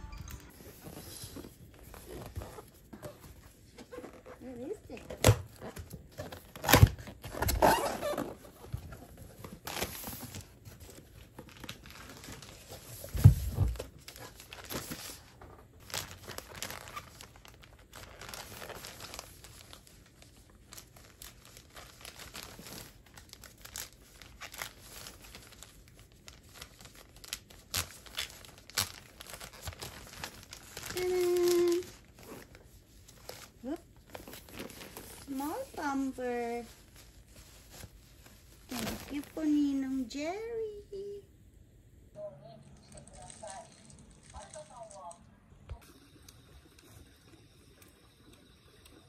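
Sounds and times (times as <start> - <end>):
crinkling and rustling: 0.5 - 41.1.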